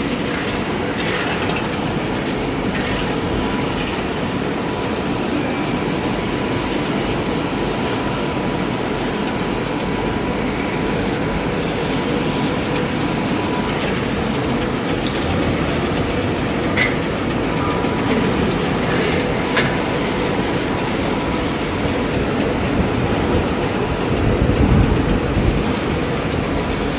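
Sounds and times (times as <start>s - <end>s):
furnace rumble and hiss: 0.0s - 26.9s.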